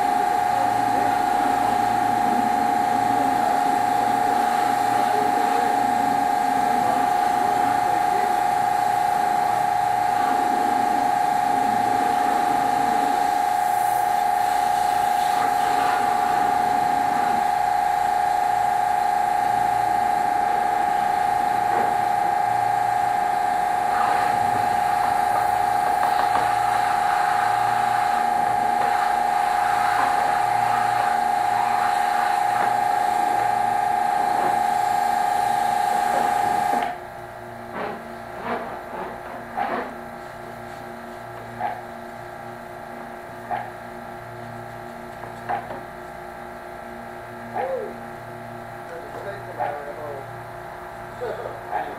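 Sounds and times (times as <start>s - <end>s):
pressure washer whine: 0.0s - 41.9s.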